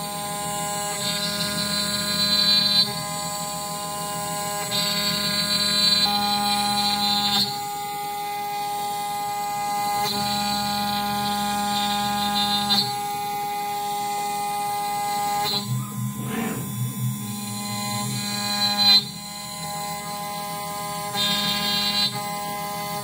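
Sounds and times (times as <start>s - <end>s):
router spindle and motors whining: 0.0s - 23.0s.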